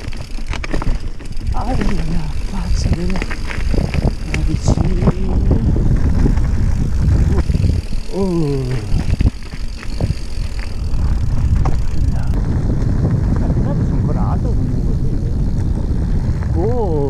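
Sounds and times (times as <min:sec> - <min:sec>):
bike rattling over ground: 0:00.0 - 0:17.0
wind buffeting microphone: 0:00.0 - 0:17.0.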